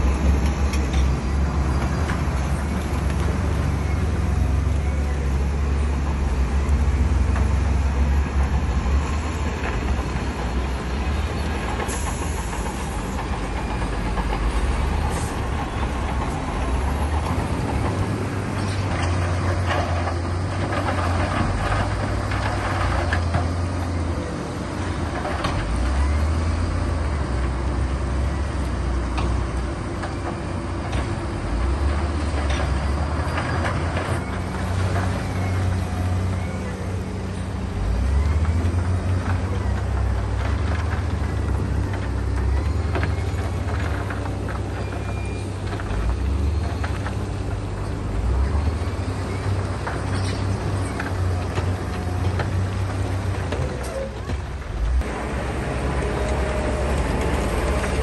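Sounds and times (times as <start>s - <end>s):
heavy diesel engines rumbling: 0.0s - 58.0s.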